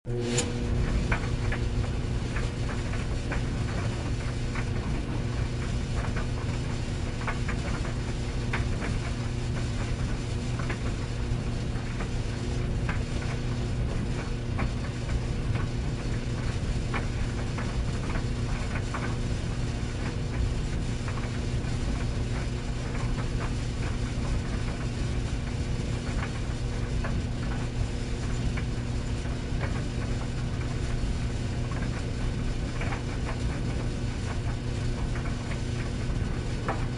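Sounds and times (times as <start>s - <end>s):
tumble dryer humming: 0.1s - 36.9s.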